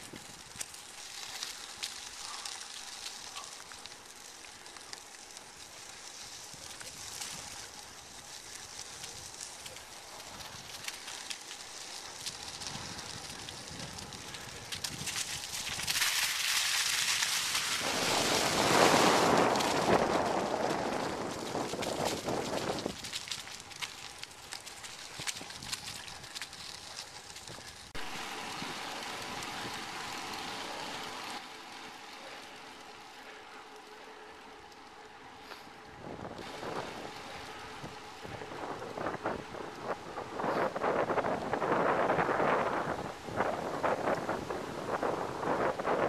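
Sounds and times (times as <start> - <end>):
tyres rolling over dry leaves: 0.0 - 46.0.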